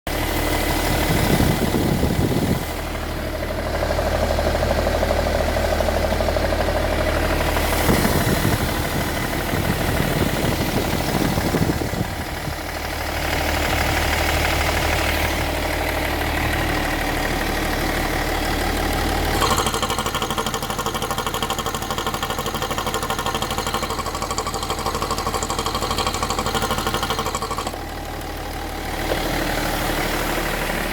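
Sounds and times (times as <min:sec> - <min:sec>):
engine running: 0:00.1 - 0:30.9.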